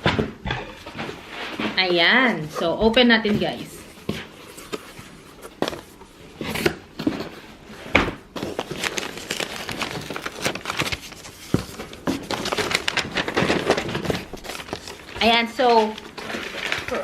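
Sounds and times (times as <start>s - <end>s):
rustling and crinkling packaging: 0.8s - 17.0s.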